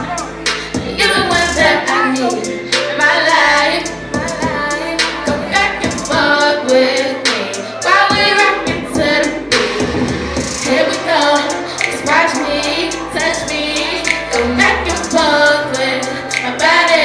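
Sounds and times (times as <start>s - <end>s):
bass notes: 0.0s - 17.0s
woman singing: 0.0s - 17.0s.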